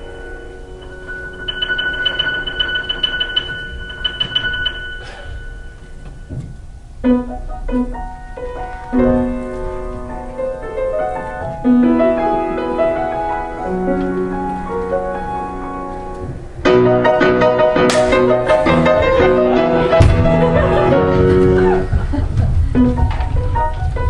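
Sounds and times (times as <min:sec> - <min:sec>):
piano playing slow melody: 0:00.0 - 0:06.3, 0:07.0 - 0:21.9.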